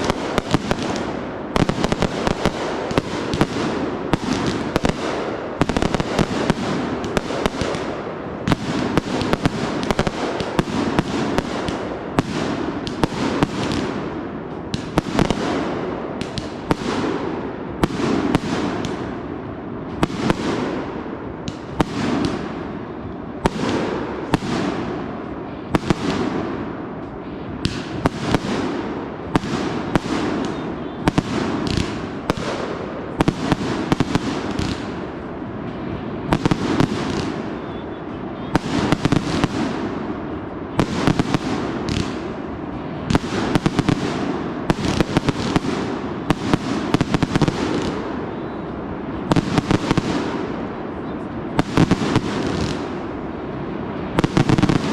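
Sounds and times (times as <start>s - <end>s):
fireworks bangs: 0.0s - 54.9s
fireworks crackle and hiss: 0.0s - 54.9s.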